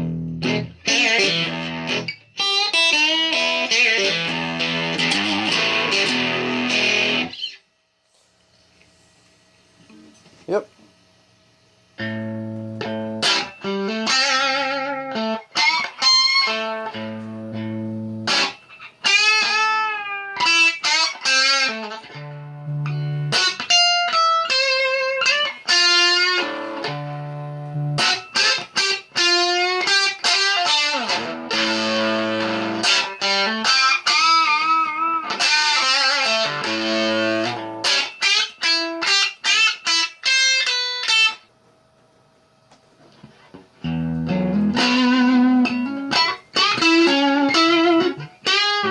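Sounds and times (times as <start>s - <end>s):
electric guitar through amp: 0.0s - 8.3s, 11.9s - 41.5s, 43.0s - 48.9s.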